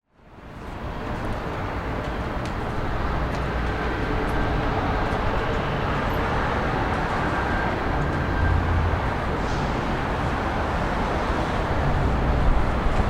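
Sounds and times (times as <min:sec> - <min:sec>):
traffic rumble: 0:00.2 - 0:13.0.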